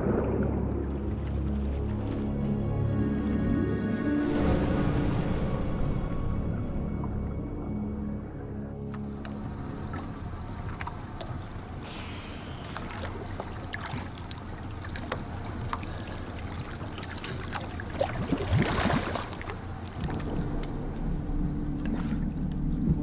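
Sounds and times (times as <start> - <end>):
rush of water: 0.0 - 5.8, 8.9 - 23.0
low steady drone: 0.0 - 23.0
water splashing and sloshing: 0.0 - 23.0.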